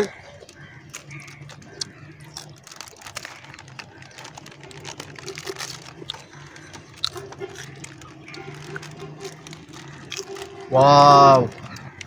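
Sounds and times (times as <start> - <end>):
plastic chip packets crinkling: 0.0 - 12.0.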